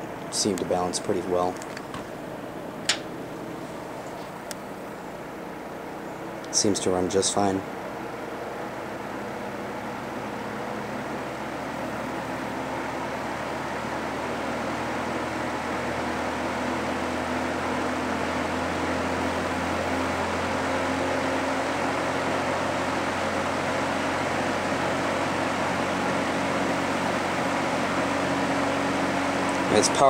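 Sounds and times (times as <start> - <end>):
box fan rushing air: 0.0 - 30.0
fan motor hum: 0.0 - 30.0.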